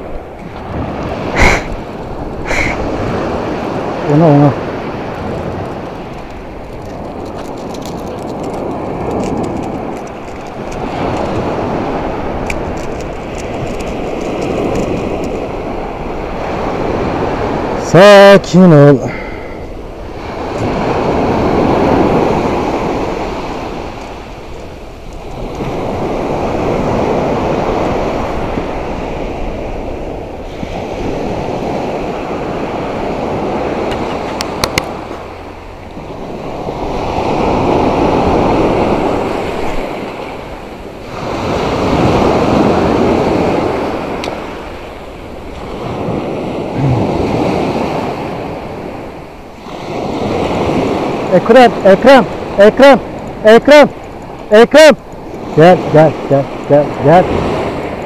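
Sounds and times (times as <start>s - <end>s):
wind on microphone: 0.0s - 17.8s, 19.1s - 51.4s
surf breaking on beach: 0.0s - 58.0s.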